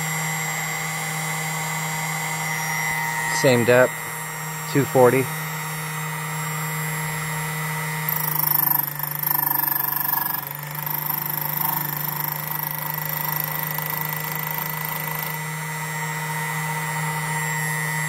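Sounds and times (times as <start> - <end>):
key cutting machine running: 0.0 - 18.0
very high whine: 0.0 - 18.0.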